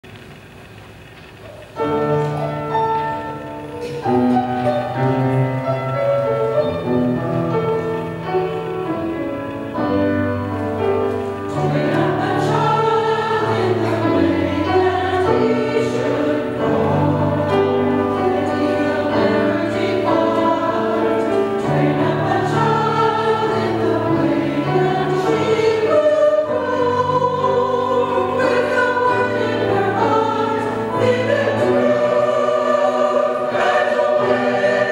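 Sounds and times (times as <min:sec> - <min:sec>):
piano accompaniment: 0:01.5 - 0:34.9
choir singing: 0:01.9 - 0:34.9.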